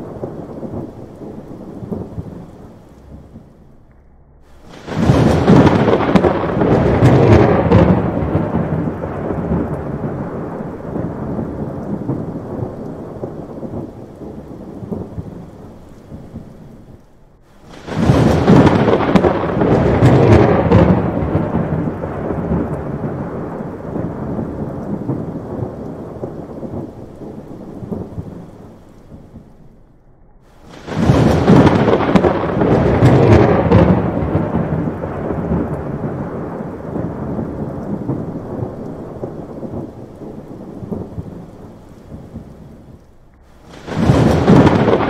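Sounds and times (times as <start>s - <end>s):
rain: 0.0s - 45.0s
rolling thunder: 0.0s - 45.0s.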